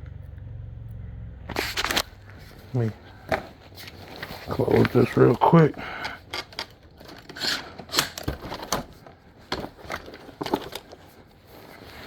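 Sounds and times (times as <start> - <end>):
brief rustle: 1.5 - 12.0.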